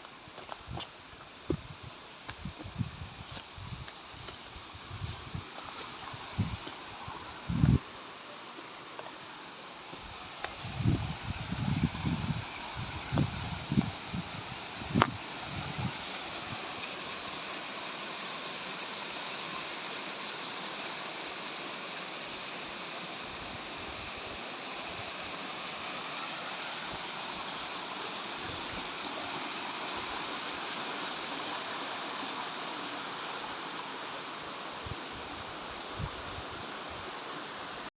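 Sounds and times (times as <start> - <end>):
water rushing over falls: 3.3 - 37.9.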